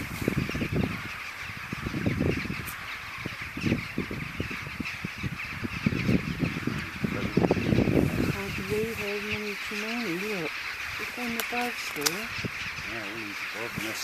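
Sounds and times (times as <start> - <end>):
rooks cawing in a dense din: 0.0 - 14.0
wind rumbling on microphone: 0.0 - 14.0.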